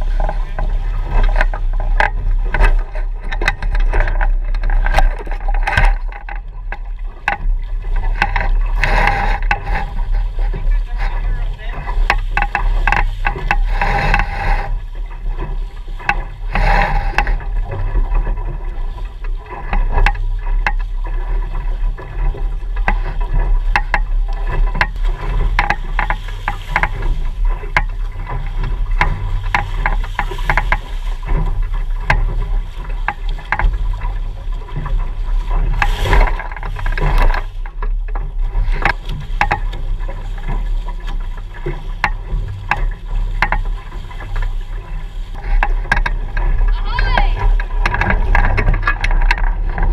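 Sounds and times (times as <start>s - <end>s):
splashes and knocks: 0.0s - 49.9s
water rushing along hull: 0.0s - 49.9s
wind rumble on microphone: 0.0s - 49.9s.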